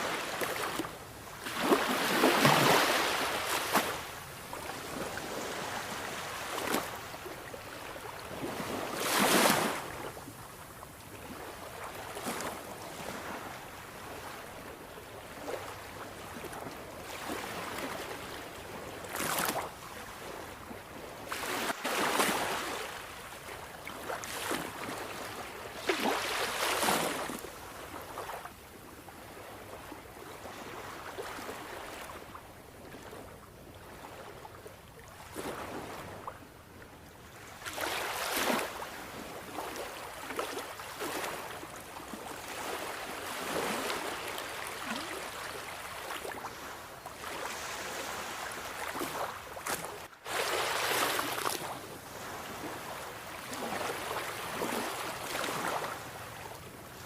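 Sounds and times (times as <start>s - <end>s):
sea waves breaking on shore: 0.0s - 28.6s, 29.2s - 36.5s, 37.3s - 57.0s.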